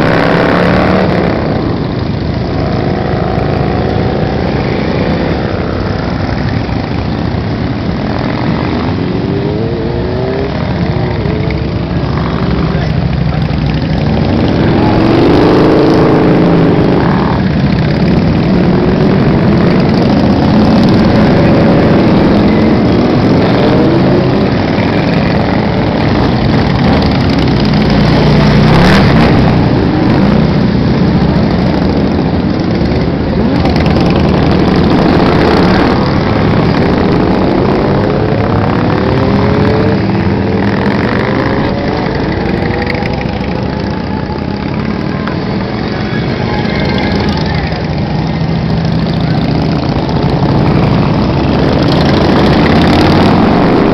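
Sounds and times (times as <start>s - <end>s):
motorcycle engines revving: 0.0s - 53.9s
motorcycles riding past: 0.0s - 53.9s.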